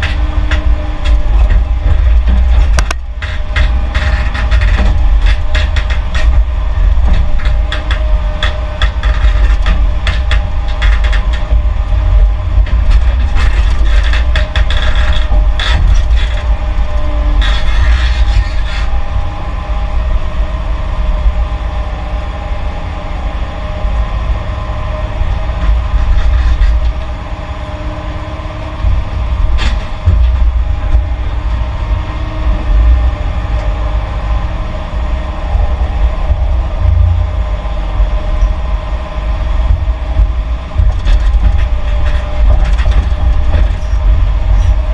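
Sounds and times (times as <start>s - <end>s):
scraping clatters: 0.0s - 19.1s, 25.3s - 33.8s, 34.9s - 44.9s
heavy diesel machinery rumbling: 0.0s - 44.9s.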